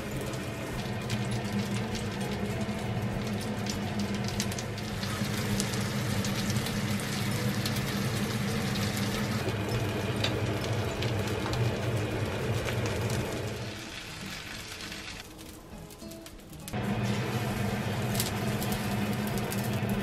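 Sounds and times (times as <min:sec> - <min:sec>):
oil sizzling in a pan: 0:00.0 - 0:20.0.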